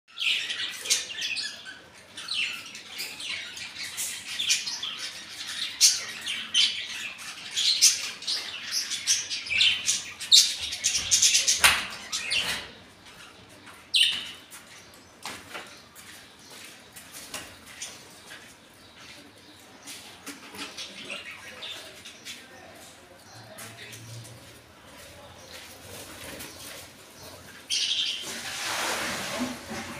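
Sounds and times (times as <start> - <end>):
parakeets chirping and chattering: 0.1 - 29.9.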